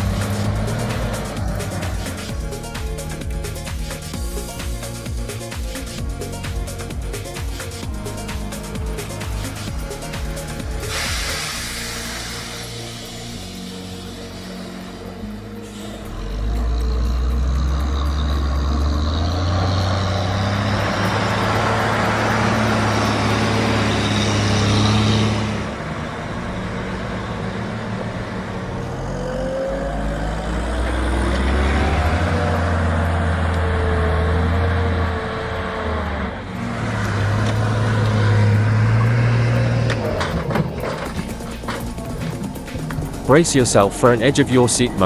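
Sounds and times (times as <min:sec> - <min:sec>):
heavy truck engine under load: 0:00.0 - 0:45.0.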